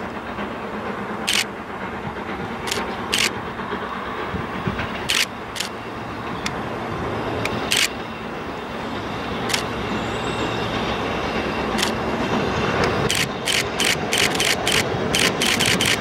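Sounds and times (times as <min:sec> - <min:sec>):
steam locomotive rumbling: 0:00.0 - 0:16.0.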